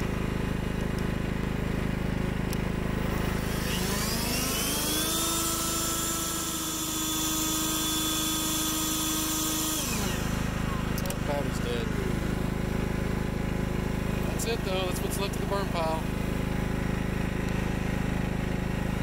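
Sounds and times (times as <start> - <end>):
motor whine: 0.0 - 19.0
steady mechanical rumble: 0.0 - 19.0.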